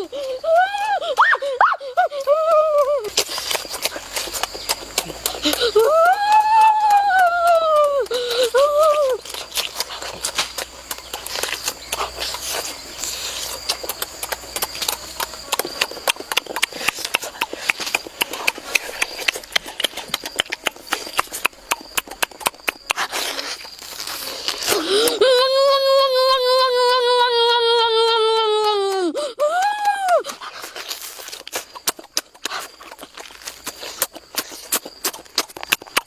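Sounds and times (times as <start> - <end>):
crunchy chewing: 0.0 - 36.0.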